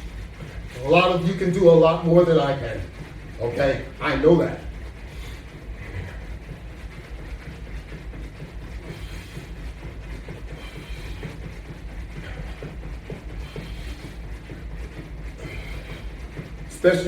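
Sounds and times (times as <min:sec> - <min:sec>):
footfalls of jogging in place: 0:00.0 - 0:17.0.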